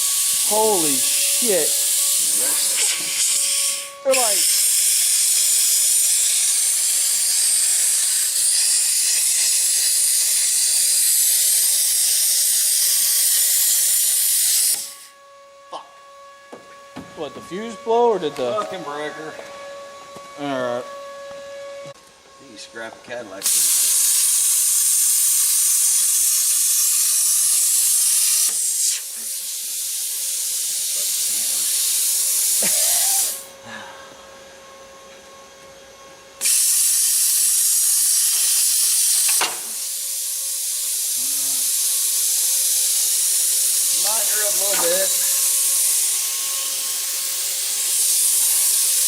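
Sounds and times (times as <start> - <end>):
electric cutting tool hissing: 0.0 - 15.2, 23.2 - 34.8, 36.4 - 49.0.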